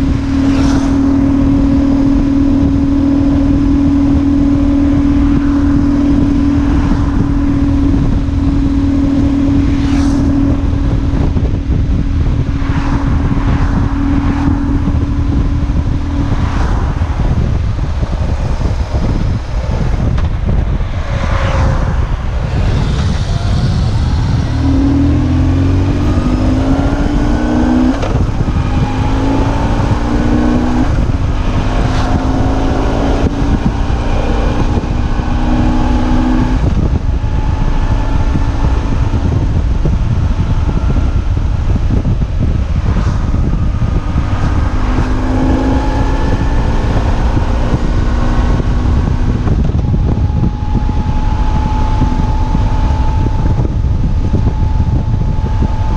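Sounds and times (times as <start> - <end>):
motorcycle engine accelerating: 0.0 - 55.9
wind rushing: 0.0 - 55.9.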